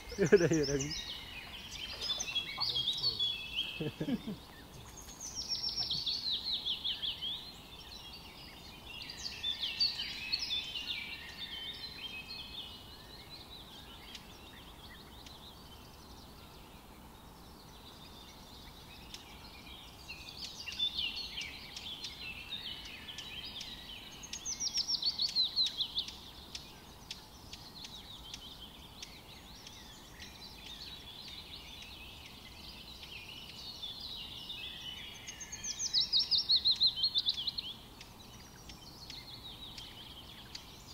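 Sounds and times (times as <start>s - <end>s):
birds chirping: 0.0s - 40.9s
faint background hiss: 0.0s - 40.9s.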